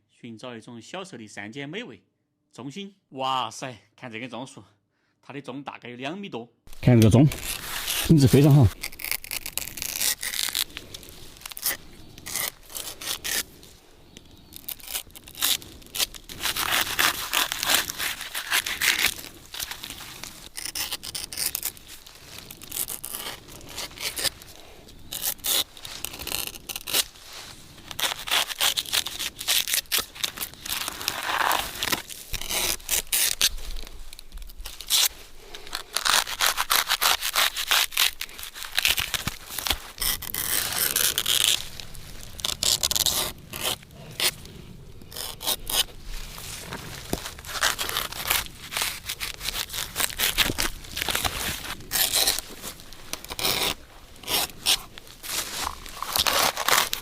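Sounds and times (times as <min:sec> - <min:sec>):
palm fibre tearing and scraping: 0:06.7 - 0:57.0.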